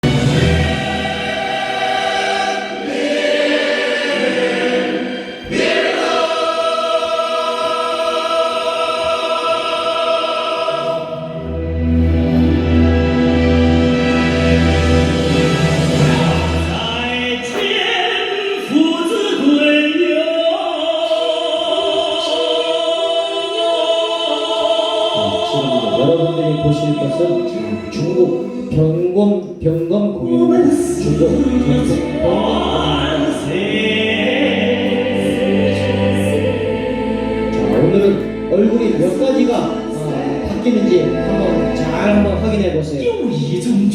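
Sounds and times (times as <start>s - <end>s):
operatic singing voice: 0.0s - 43.9s.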